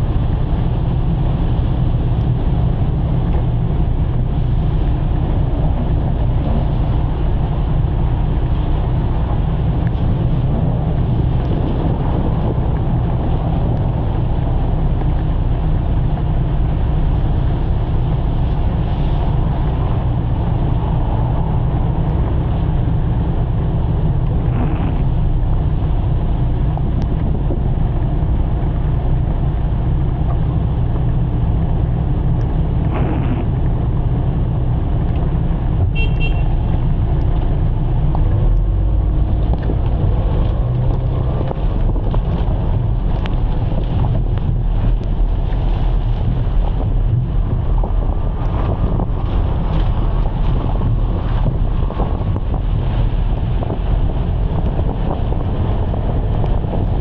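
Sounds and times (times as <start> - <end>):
heavy rain: 0.0 - 57.0
vehicle noise: 0.0 - 57.0
wind on the microphone: 0.0 - 57.0.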